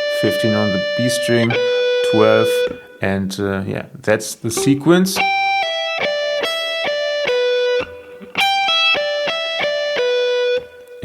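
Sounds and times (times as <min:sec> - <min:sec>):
electric guitar single notes: 0:00.0 - 0:03.7, 0:04.5 - 0:11.0.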